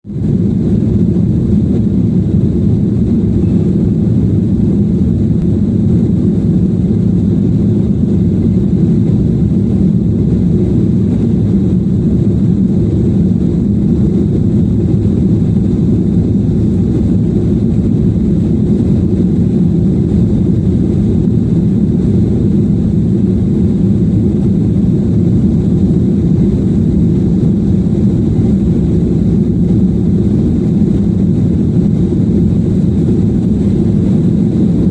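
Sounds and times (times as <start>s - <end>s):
airliner engine rumble: 0.0s - 34.9s.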